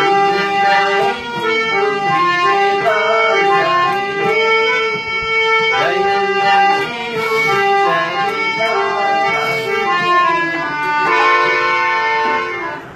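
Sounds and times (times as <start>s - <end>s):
electronic keyboard: 0.0s - 12.9s
harmonium melody: 0.0s - 12.9s.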